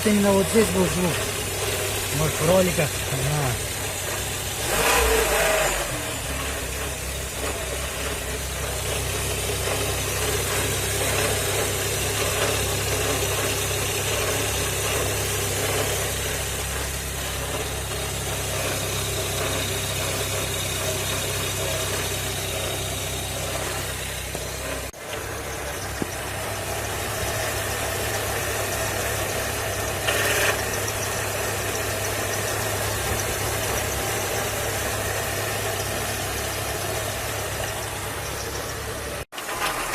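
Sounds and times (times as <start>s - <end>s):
car engine idling with a hum: 0.0s - 39.9s.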